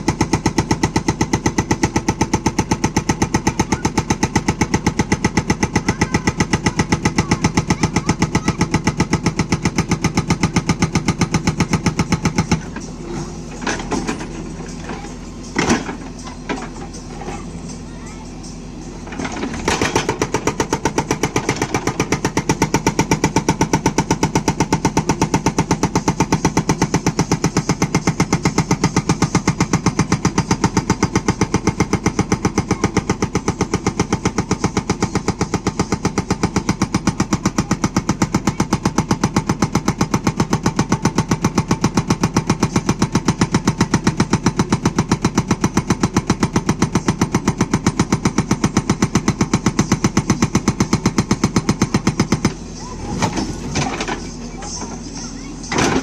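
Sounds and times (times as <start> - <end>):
hydraulic rock breaker hammering: 0.0 - 17.7, 18.5 - 56.0
diesel engine running: 0.0 - 56.0.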